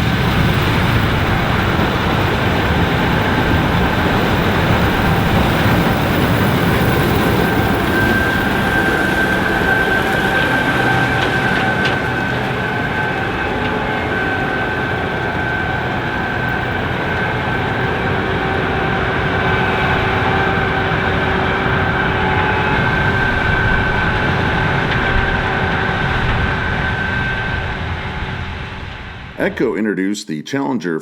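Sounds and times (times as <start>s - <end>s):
combine harvester engine running: 0.0s - 29.6s
steady high whine: 0.0s - 30.4s.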